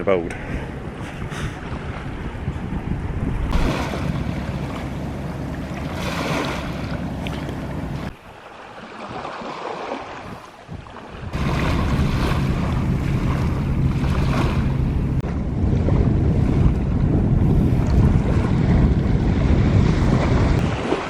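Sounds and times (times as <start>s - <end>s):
wind buffeting microphone: 0.0s - 8.3s, 9.0s - 21.0s
steady low hum: 0.3s - 8.1s, 11.3s - 20.6s.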